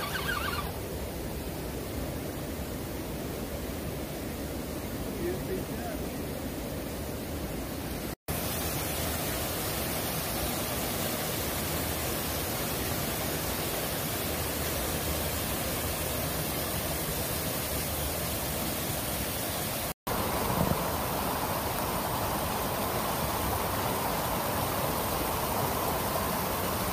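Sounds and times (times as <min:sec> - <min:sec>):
creek rushing over boulders: 0:00.0 - 0:26.9.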